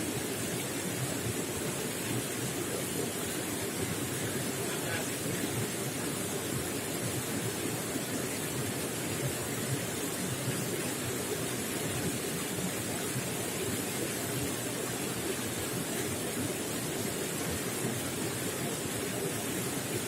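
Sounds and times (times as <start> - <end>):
running water gurgling: 0.0 - 20.0.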